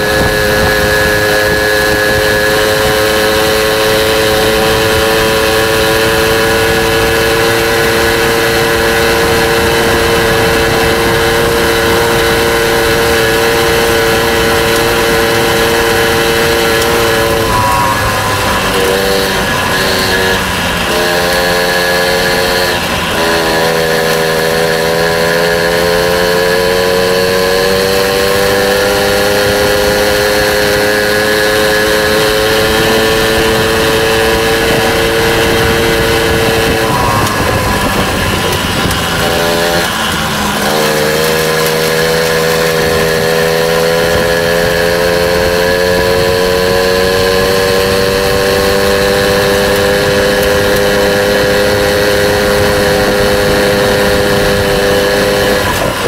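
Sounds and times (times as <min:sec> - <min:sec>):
small motorbike engine revving: 0:00.0 - 0:56.0.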